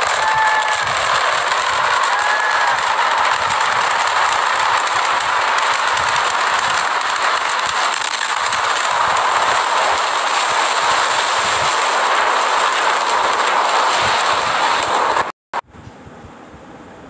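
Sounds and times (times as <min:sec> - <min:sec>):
dust cloud rushing: 0:00.0 - 0:15.3
wind buffeting microphone: 0:00.0 - 0:16.9.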